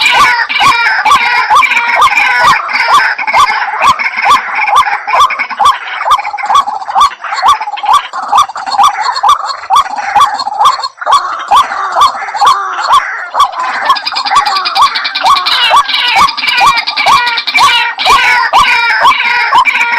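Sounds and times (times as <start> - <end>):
waterhen calling: 0.0 - 19.9.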